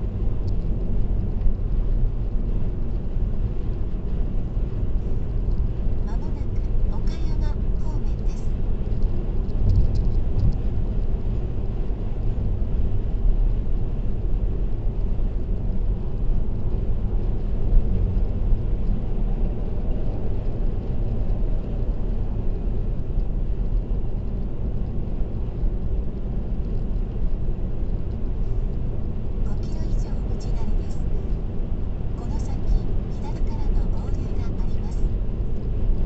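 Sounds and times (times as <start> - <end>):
car road and tyre noise: 0.0 - 36.0.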